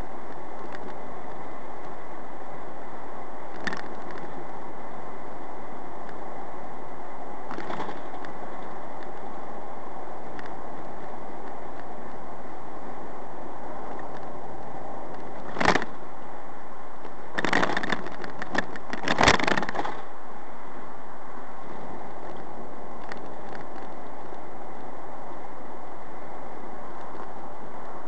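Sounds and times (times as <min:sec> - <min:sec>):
car driving road noise: 0:00.0 - 0:28.0.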